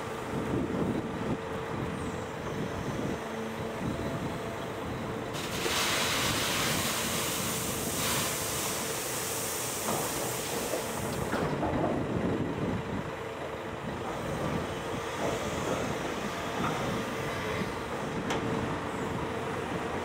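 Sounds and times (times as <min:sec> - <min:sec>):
excavator diesel engine working: 0:00.0 - 0:20.0.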